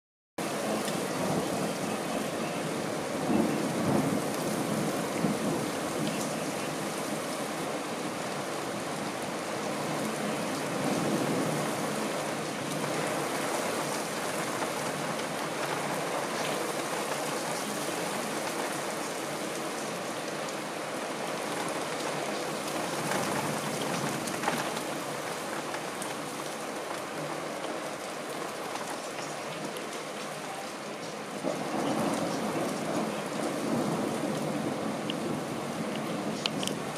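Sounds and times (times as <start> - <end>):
steady rain: 0.4 - 36.9.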